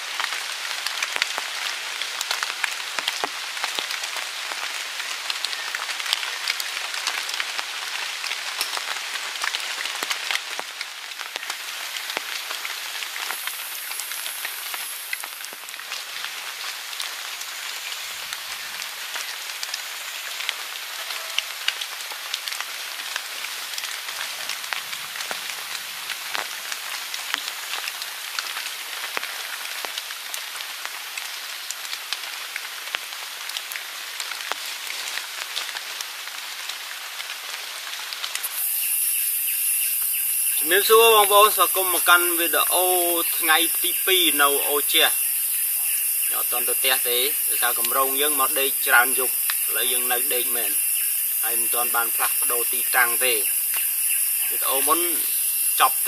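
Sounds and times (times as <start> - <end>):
rain on leaves and tarp: 0.0 - 56.0.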